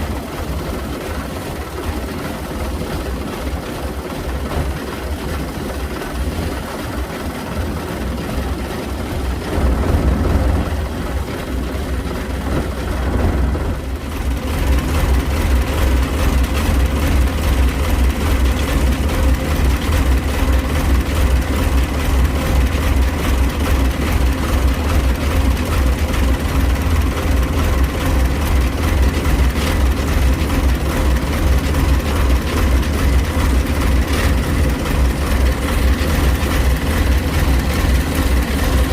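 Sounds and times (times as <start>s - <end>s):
machine engine droning: 0.0s - 38.9s.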